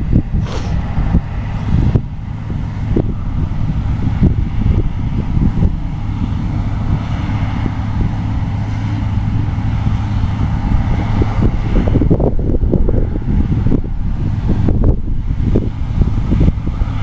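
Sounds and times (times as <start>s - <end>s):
diesel engine running: 0.0s - 17.0s
wind buffeting microphone: 0.0s - 17.0s.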